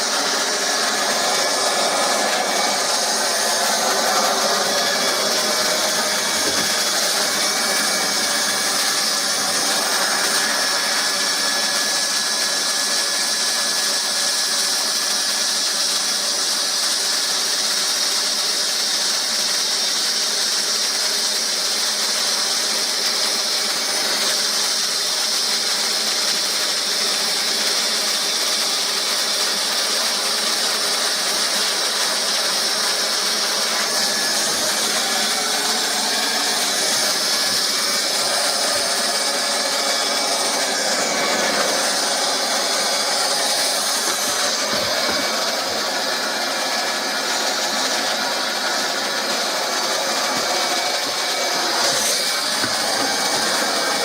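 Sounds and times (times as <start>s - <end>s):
hot-air welding gun hissing: 0.0s - 54.0s.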